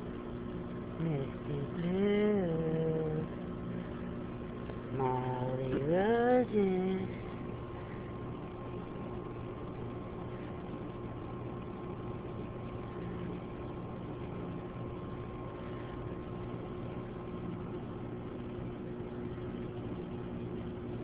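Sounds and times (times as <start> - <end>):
faint constant tones: 0.0 - 21.0
steady background hum and hiss: 0.0 - 21.0.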